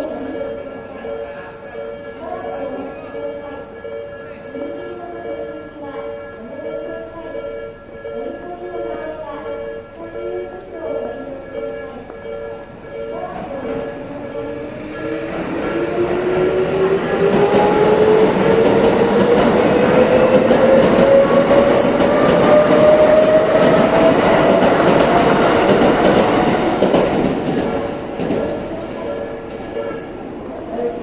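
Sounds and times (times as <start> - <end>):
level crossing warning bell: 0.0 - 31.0.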